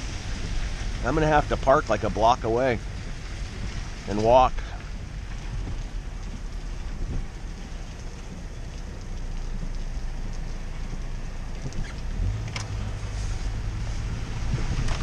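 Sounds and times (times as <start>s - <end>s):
car engine and road rumble: 0.0s - 15.0s
rushing water: 0.0s - 15.0s.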